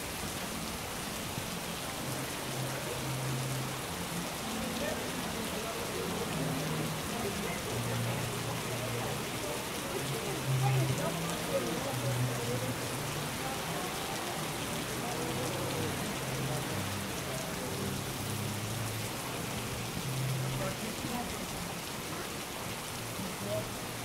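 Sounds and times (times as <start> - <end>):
rain pattering on walkways: 0.0 - 24.0.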